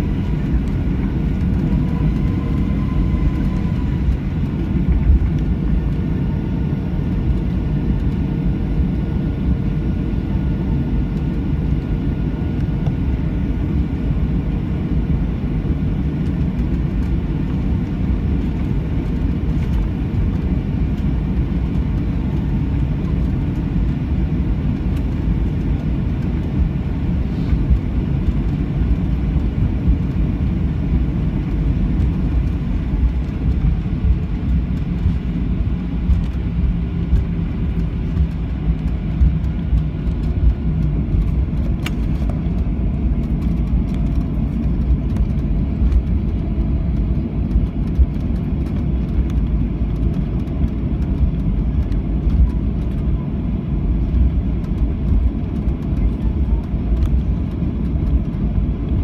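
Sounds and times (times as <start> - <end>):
jet engines low rumble: 0.0 - 59.0.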